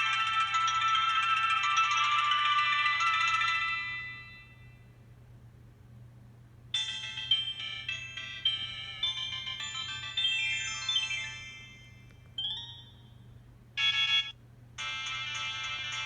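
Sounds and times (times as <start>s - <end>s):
synthesized ringtone melody: 0.0s - 4.6s, 6.8s - 13.1s, 13.8s - 16.0s.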